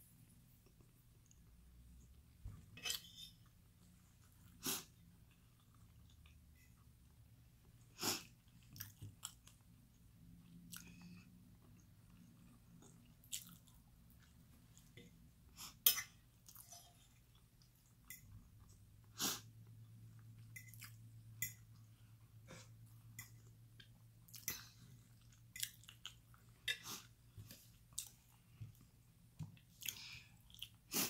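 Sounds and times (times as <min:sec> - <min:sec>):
person chewing food: 0:02.8 - 0:31.0.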